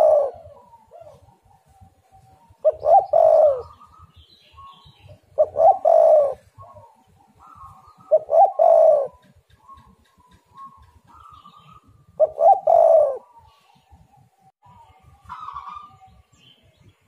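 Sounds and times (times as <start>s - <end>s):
dove cooing: 0.0s - 16.3s
faint bird chirps: 0.0s - 17.0s.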